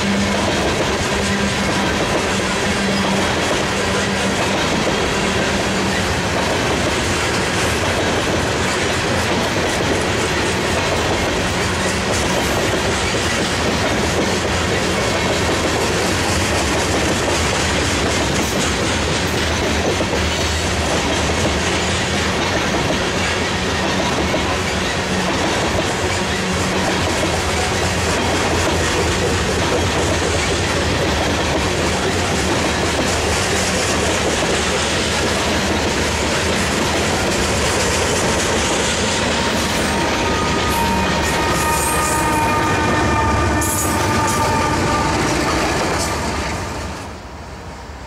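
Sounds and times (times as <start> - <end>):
steel wheels on rail: 0.0 - 48.0.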